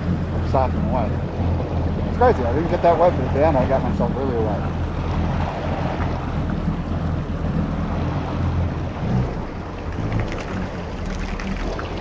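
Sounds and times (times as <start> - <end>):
jet ski engine running: 0.0 - 12.0
water noise: 0.0 - 12.0.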